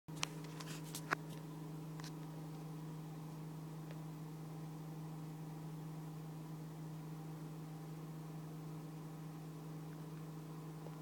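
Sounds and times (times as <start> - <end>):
low hum: 0.1 - 11.0.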